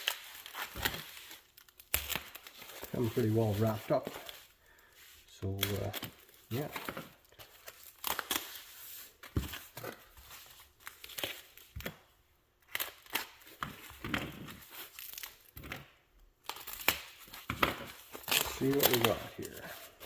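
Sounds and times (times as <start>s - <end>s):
parcel wrapping tearing and crinkling: 0.0s - 20.0s.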